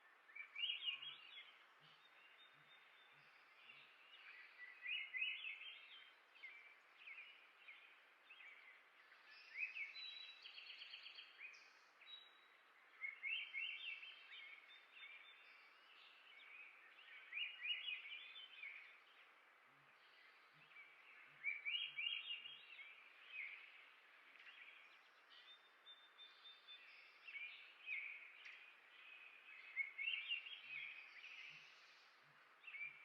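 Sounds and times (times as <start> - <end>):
faint background hiss: 0.0 - 33.0
songbird chirping: 0.0 - 33.0.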